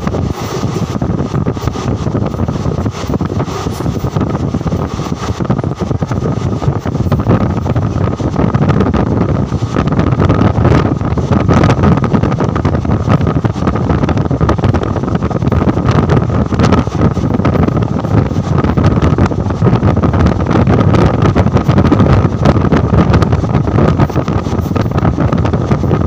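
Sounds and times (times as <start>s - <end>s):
train wheels rumbling on rails: 0.0s - 26.0s
wind on microphone: 0.0s - 26.0s.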